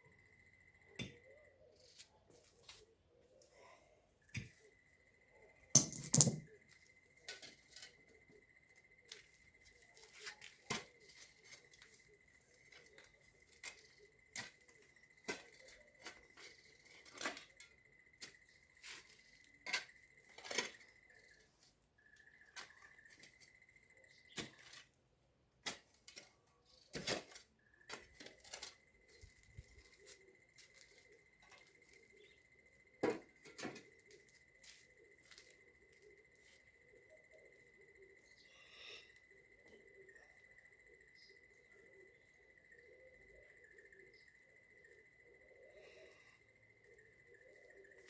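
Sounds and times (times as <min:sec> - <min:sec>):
faint high-pitched whine: 0:00.0 - 0:48.0.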